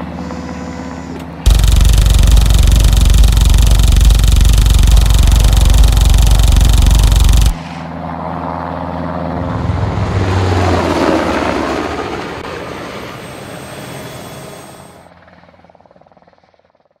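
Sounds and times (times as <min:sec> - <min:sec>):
helicopter rotor and turbine: 0:01.5 - 0:15.3.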